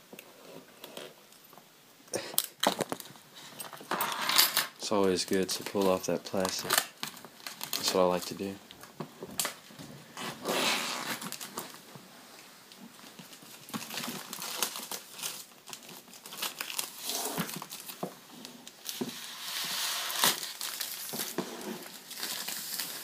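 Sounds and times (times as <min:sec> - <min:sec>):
plastic wrap crinkling: 0:02.2 - 0:03.9, 0:04.8 - 0:23.0.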